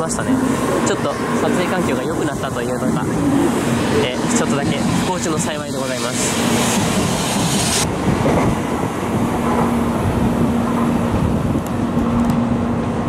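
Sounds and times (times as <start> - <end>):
train hum: 0.0 - 13.0
train running past: 0.0 - 13.0.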